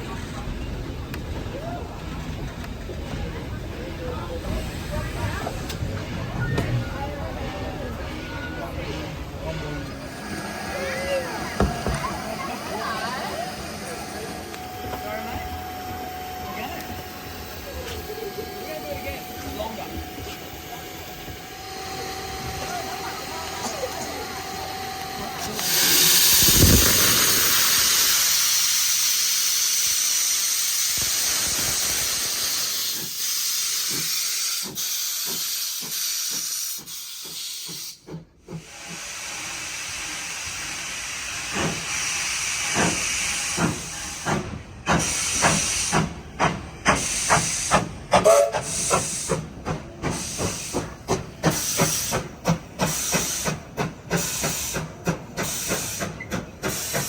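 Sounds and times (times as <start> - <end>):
train releasing loud hiss: 7.6 - 57.0.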